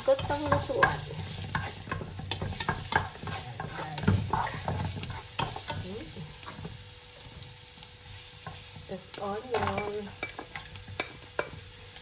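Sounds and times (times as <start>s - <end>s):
garlic sizzling in oil: 0.0s - 12.0s
wooden spoon scraping a pot: 0.0s - 12.0s.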